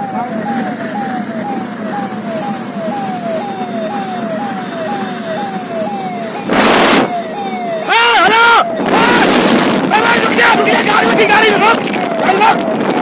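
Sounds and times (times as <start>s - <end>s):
electronic siren wailing: 0.0s - 13.0s
moving car hum: 0.0s - 13.0s
loud rushing noise: 2.1s - 13.0s.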